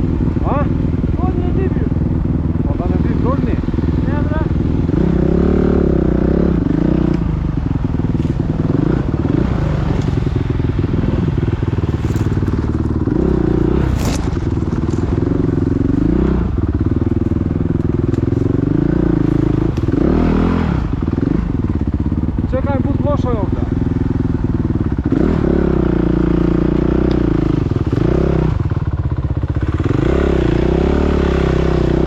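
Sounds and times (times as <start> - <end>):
motocross bike engines revving: 0.0 - 28.8, 29.5 - 32.0.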